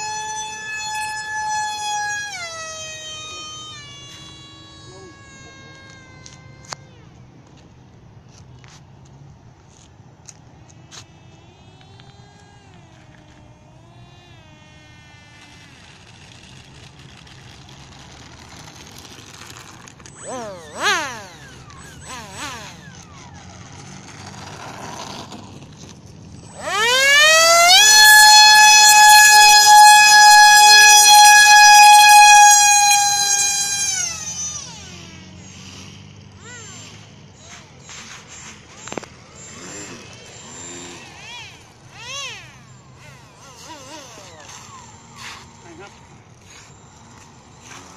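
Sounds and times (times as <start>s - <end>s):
electric motor whine: 0.0s - 8.8s, 9.7s - 47.9s.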